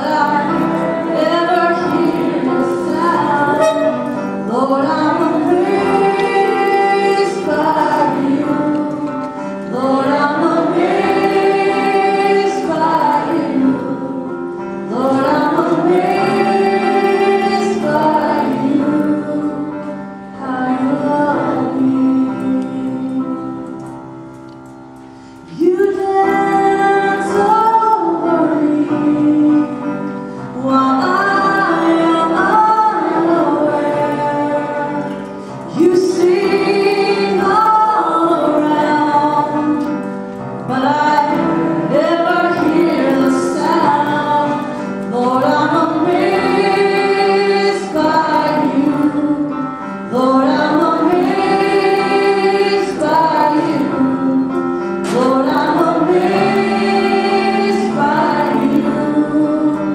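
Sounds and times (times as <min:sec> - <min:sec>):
voices singing along: 0:00.0 - 0:23.2, 0:30.6 - 0:39.9, 0:40.7 - 0:59.9
woman singing into microphone: 0:00.0 - 0:23.6, 0:25.5 - 0:59.9.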